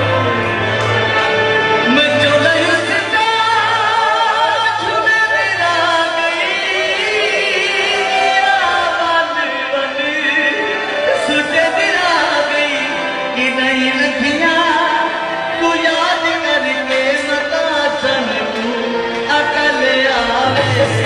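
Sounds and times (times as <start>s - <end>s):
instrumental backing: 0.0s - 21.0s.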